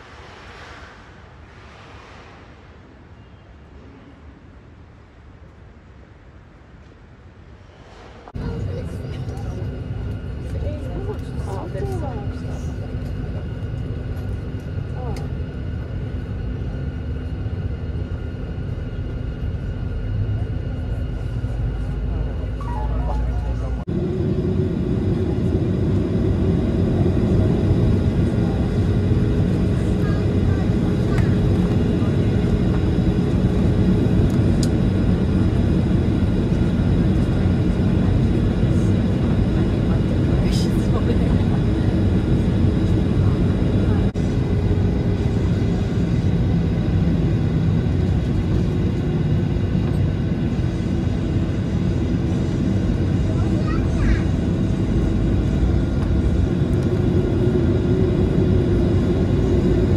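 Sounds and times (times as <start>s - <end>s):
jet engines heard from cabin: 0.0s - 59.9s.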